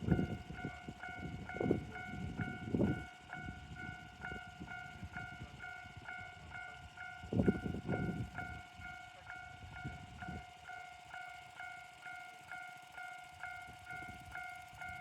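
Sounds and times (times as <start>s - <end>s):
train rumble and clatter: 0.0s - 15.0s.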